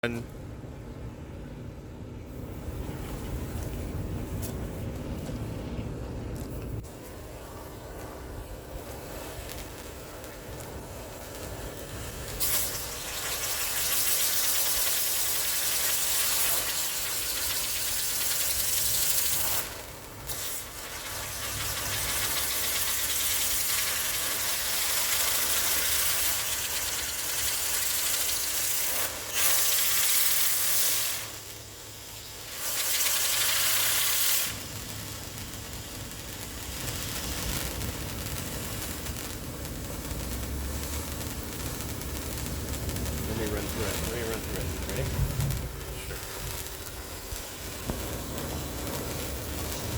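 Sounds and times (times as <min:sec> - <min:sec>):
fireworks hissing: 0:02.3 - 0:49.9.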